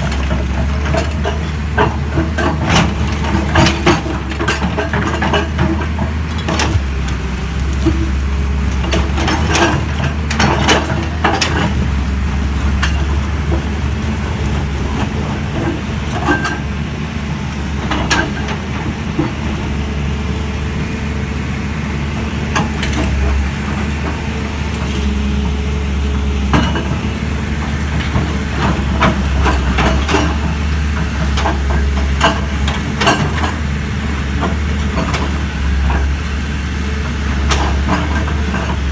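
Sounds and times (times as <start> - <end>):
large engine running: 0.0 - 38.9.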